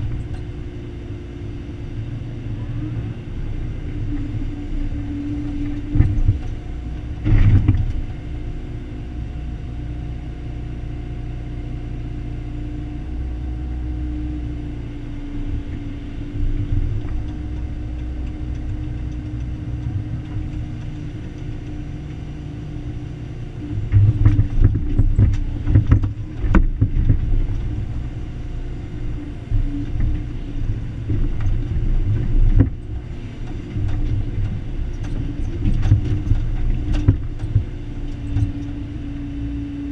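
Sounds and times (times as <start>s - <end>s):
excavator diesel engine running: 0.0s - 10.4s, 13.0s - 39.9s.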